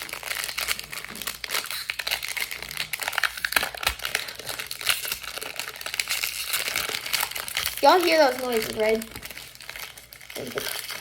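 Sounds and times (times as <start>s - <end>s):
trading cards and foil wrapper crinkling: 0.0s - 11.0s.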